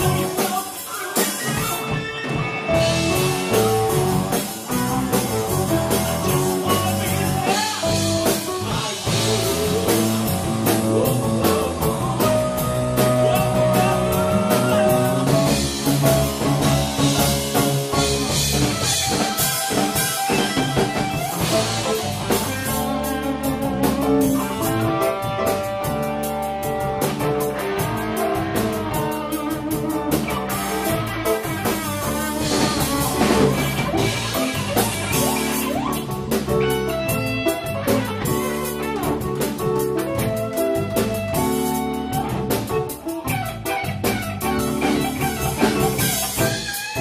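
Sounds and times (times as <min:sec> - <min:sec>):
drum kit: 0:00.0 - 0:47.0
electric guitar: 0:00.0 - 0:47.0.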